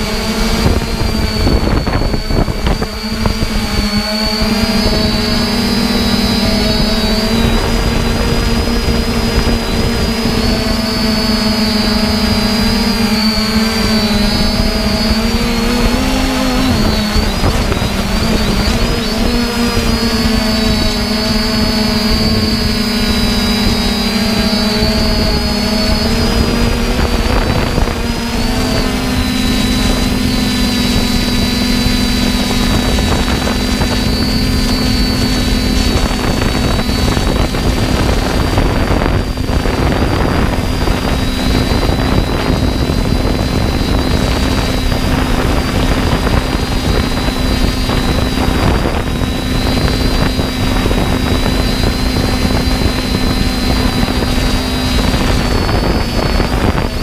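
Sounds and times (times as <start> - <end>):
drone motors humming and whining: 0.0 - 57.0
wind rushing over microphone: 0.0 - 57.0.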